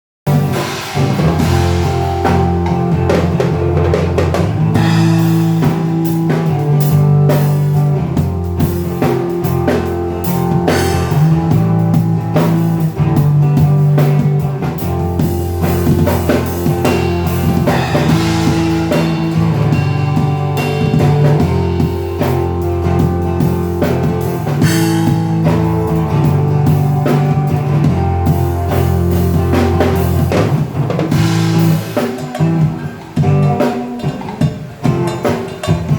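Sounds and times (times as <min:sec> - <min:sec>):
drum kit steady beat: 0:00.3 - 0:35.9
guitar: 0:00.3 - 0:35.9
held bass notes: 0:00.3 - 0:35.9.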